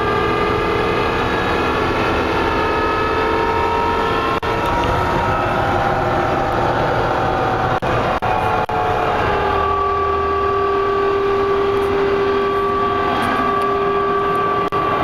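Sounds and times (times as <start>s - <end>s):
engine and road noise drone: 0.0s - 15.0s
whining tones: 0.0s - 15.0s.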